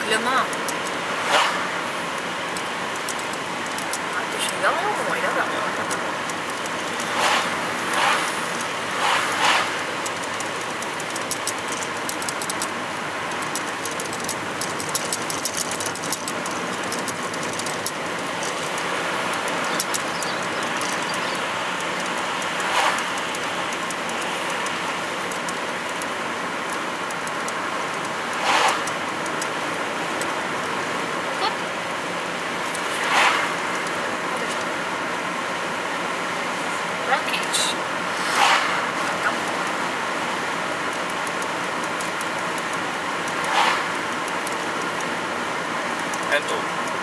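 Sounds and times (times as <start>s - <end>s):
car road and engine noise: 0.0s - 47.0s
van passing: 0.0s - 47.0s.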